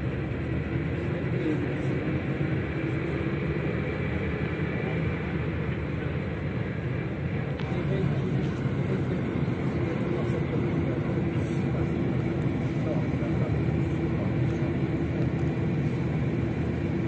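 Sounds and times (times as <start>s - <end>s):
bus engine: 0.0s - 17.0s
road noise: 0.0s - 17.0s.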